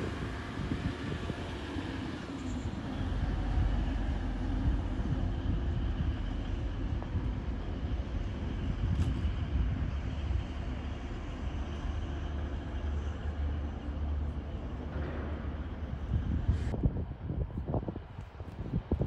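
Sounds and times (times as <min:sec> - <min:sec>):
train rumbling past: 0:00.0 - 0:18.9.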